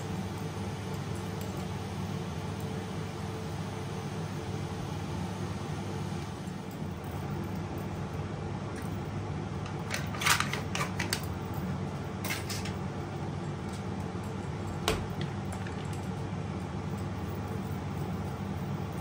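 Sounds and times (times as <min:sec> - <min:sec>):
low appliance hum: 0:00.0 - 0:19.0.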